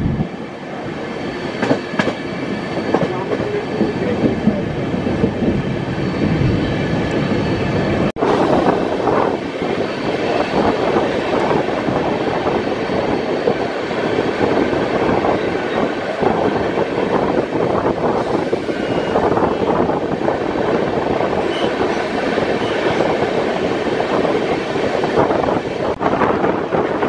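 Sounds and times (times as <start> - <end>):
train wheels rolling on track: 0.0 - 27.0.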